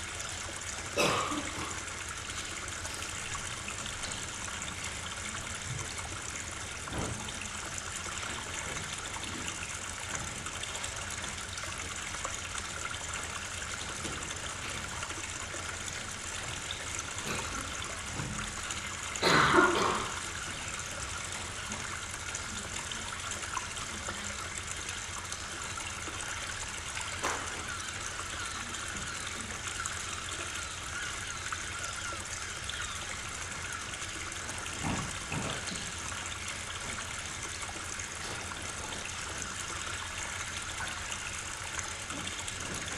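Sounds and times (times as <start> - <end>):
water sound over loudspeakers: 0.0 - 42.9.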